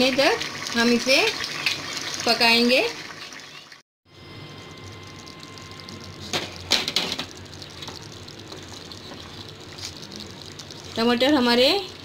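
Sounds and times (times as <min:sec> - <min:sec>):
food simmering in a pan: 0:00.0 - 0:12.0.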